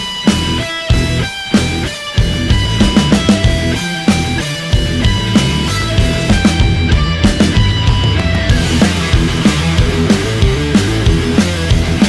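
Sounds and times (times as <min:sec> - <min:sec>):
driving drum beat: 0:00.0 - 0:12.0
electric guitar: 0:00.0 - 0:12.0
heavy rock music: 0:00.0 - 0:12.0.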